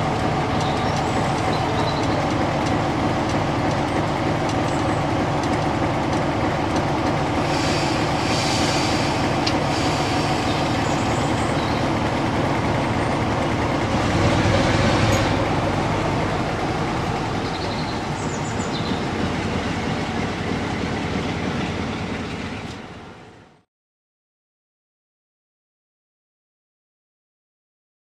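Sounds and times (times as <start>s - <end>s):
diesel locomotive engine hum: 0.0s - 23.7s
rail noise: 0.0s - 23.7s.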